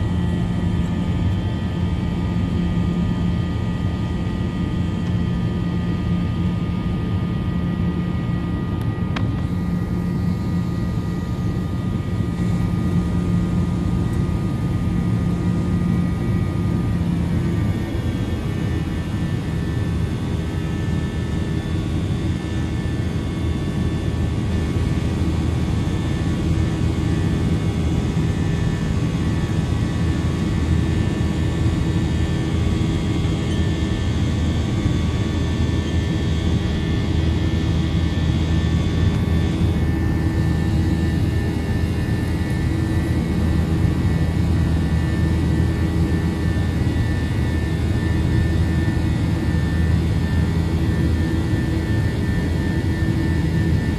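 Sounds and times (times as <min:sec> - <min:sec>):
jet engine low rumble: 0:00.0 - 0:53.9
jet engine whining tones: 0:00.0 - 0:53.9.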